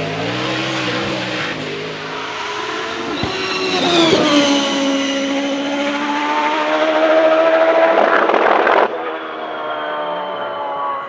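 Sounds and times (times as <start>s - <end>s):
race car engine accelerating: 0.0s - 9.4s.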